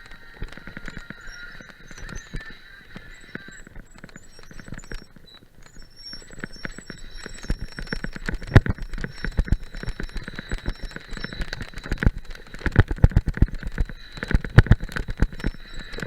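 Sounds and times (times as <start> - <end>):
bike clicks and knocks: 0.0 - 16.0.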